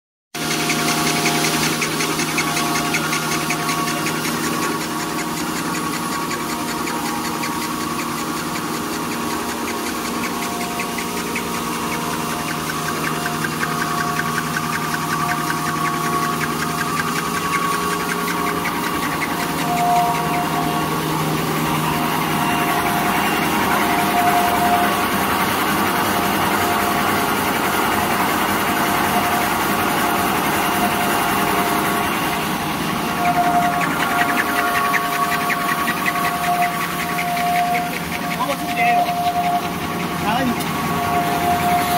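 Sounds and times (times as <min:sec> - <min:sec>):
fast fine ticking: 0:00.4 - 0:41.9
packing machine humming: 0:00.4 - 0:41.9.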